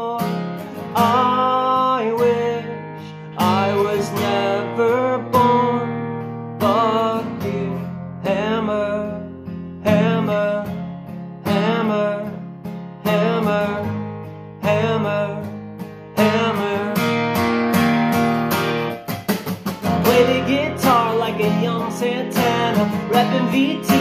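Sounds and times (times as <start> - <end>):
man singing: 0.0 - 17.2, 19.8 - 24.0
strummed acoustic guitar: 0.0 - 24.0.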